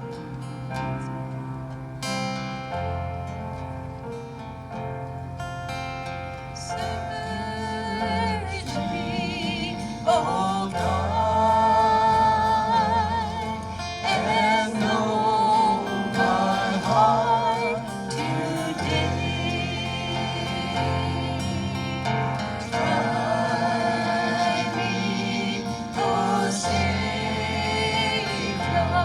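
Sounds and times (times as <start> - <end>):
instrumental accompaniment: 0.0 - 29.0
singers performing a gospel hymn: 5.4 - 29.0.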